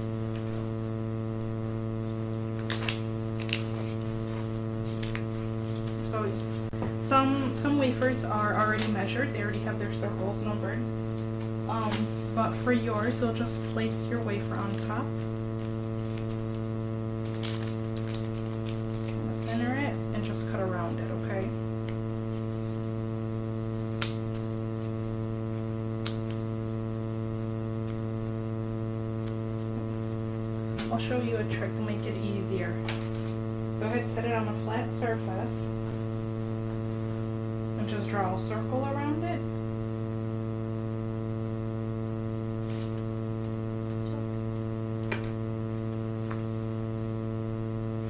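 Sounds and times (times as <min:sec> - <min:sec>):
electrical mains hum: 0:00.0 - 0:48.0.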